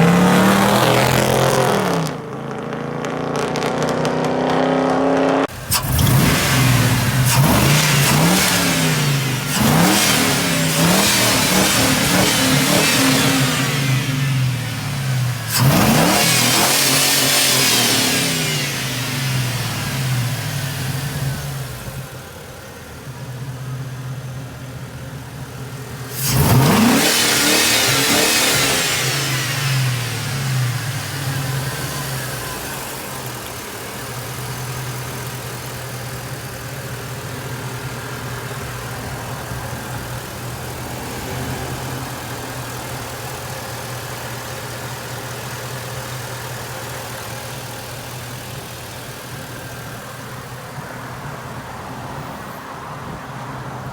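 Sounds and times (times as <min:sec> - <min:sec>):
engine idling and revving: 0:00.0 - 0:53.9.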